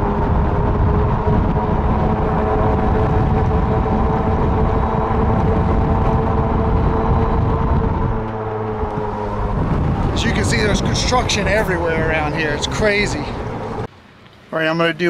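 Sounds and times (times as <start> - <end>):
electric motor whine: 0.0 - 13.9
wind rumbling on microphone: 0.0 - 13.9.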